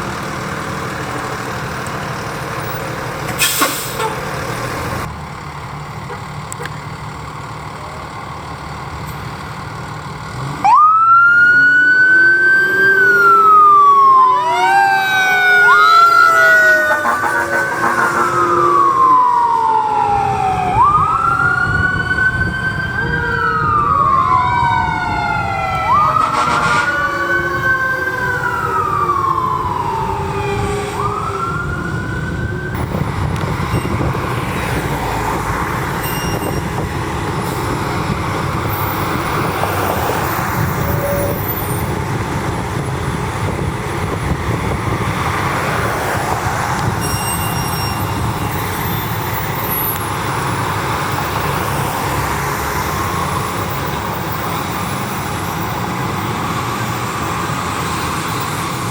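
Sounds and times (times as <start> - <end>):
heavy engine rumble: 0.0 - 58.9
road traffic: 0.0 - 58.9
emergency sirens wailing: 9.6 - 58.9.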